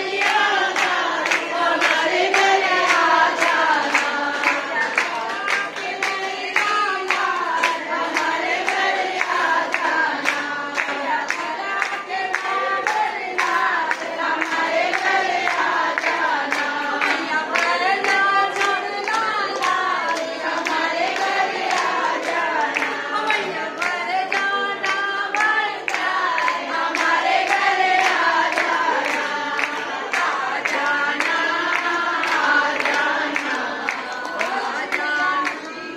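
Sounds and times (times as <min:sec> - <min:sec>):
hand claps: 0:00.0 - 0:35.9
women singing in unison: 0:00.0 - 0:35.9.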